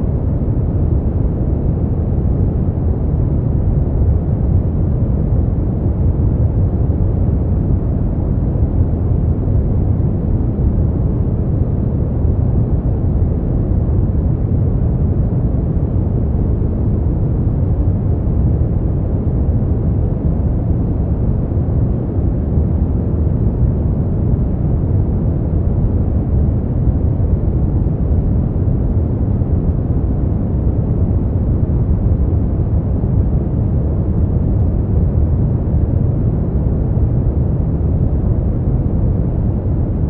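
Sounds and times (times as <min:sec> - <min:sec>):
deep muffled steady noise: 0:00.0 - 0:40.0.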